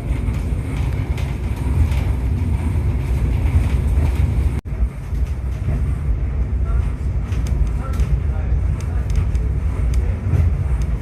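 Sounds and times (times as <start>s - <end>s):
cable car low rumble: 0.0s - 11.0s.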